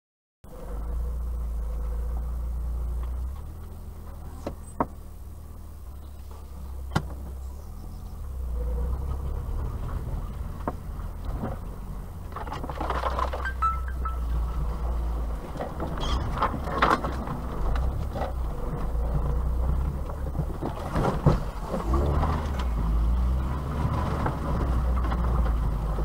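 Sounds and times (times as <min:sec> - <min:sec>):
car engine and road drone: 0:00.4 - 0:26.0
car knocking over bumps: 0:00.6 - 0:26.0.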